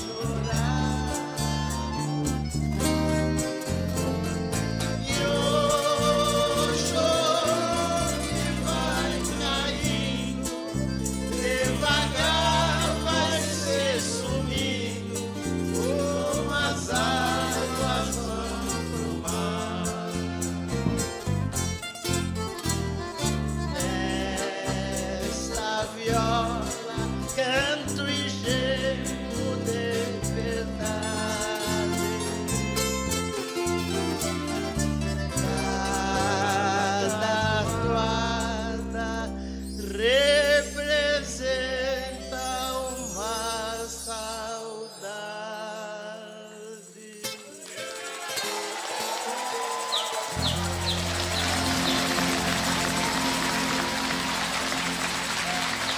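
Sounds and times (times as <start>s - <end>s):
viola caipira: 0.0s - 44.2s, 47.3s - 55.9s
accordion: 0.0s - 45.2s, 46.3s - 55.9s
acoustic guitars: 0.0s - 55.9s.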